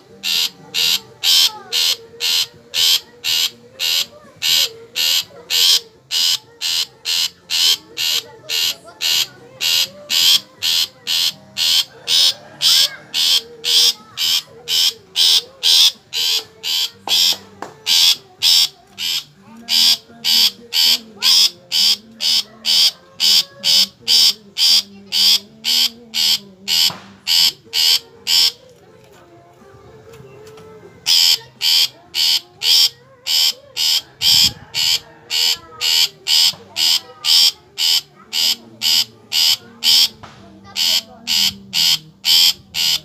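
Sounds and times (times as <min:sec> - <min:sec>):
bird giving harsh calls: 0:00.0 - 0:28.6, 0:31.0 - 0:43.0.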